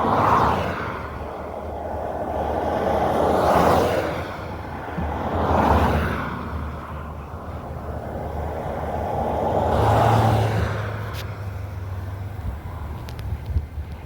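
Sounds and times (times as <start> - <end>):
vehicles passing: 0.0 - 14.0.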